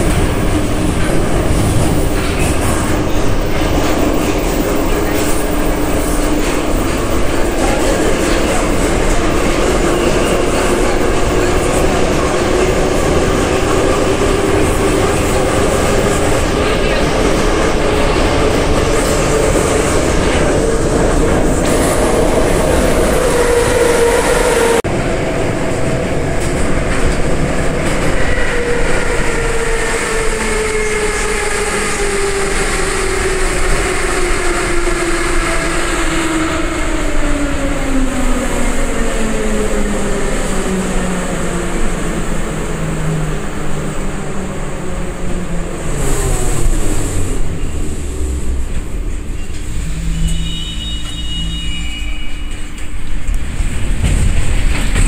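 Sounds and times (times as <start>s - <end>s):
metro train traction whine: 0.0s - 55.0s.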